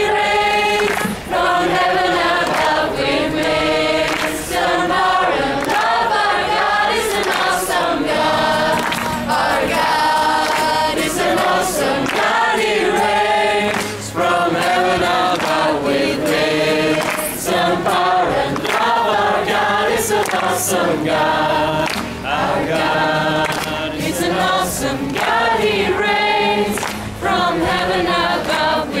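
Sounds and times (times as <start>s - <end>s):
crowd singing worship song: 0.0s - 29.0s.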